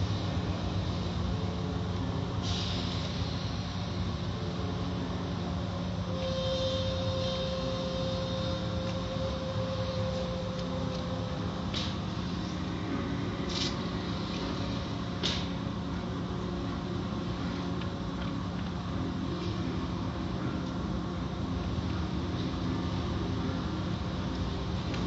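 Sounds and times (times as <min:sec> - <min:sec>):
machinery low hum: 0:00.0 - 0:25.0.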